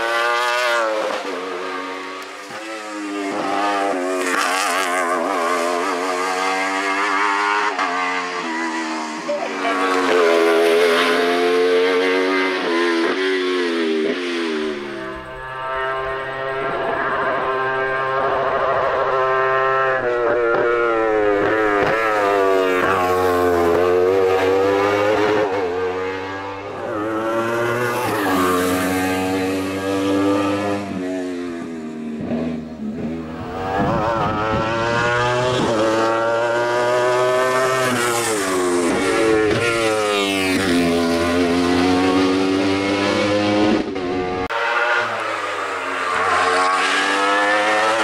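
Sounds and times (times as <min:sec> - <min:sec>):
racing engine revving: 0:00.0 - 0:48.0.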